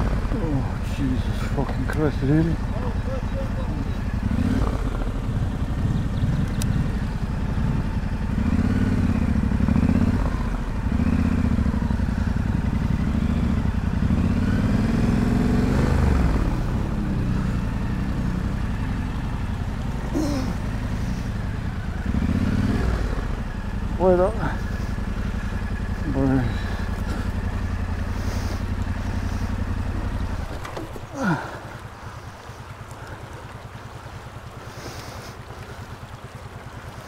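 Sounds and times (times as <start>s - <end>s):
motorcycle engine idling: 0.0s - 37.0s
shallow stream rushing: 0.0s - 37.0s.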